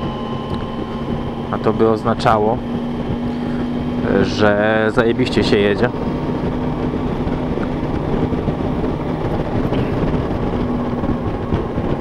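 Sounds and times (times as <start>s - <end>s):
motorcycle engine humming: 0.0s - 12.0s
wind and road noise: 0.0s - 12.0s.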